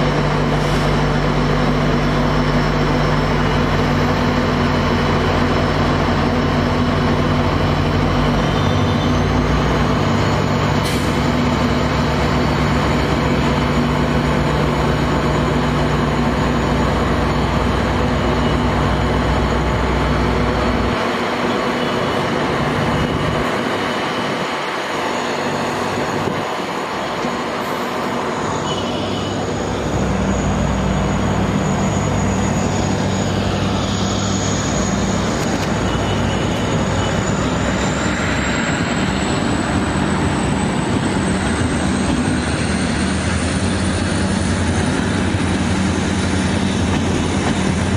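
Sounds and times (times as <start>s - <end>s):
low engine drone: 0.0s - 47.9s
train wheels rolling on track: 0.0s - 47.9s.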